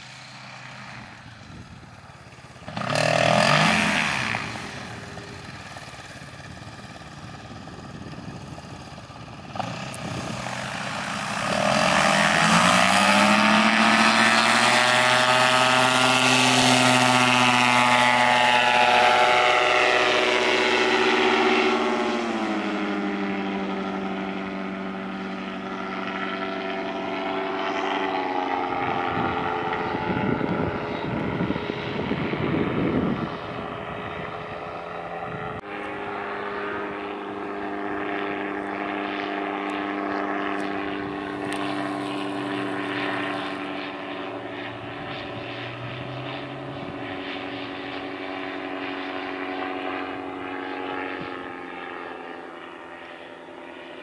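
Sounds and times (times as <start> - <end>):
ultralight aircraft engine and propeller: 0.0 - 54.0.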